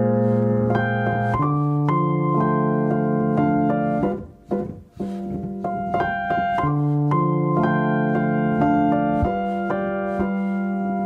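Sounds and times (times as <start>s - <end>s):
piano playing held chords: 0.0s - 11.0s.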